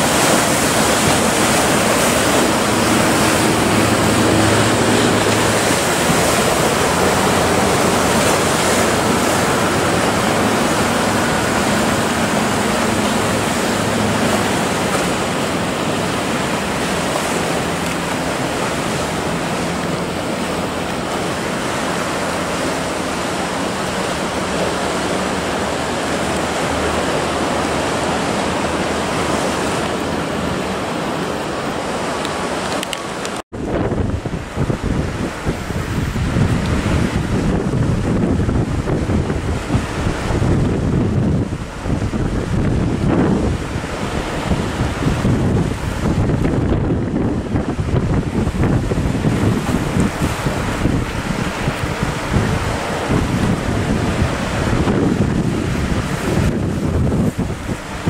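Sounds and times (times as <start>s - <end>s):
distant motorboat engines drone: 0.0s - 58.0s
sea waves churning and breaking: 0.0s - 58.0s.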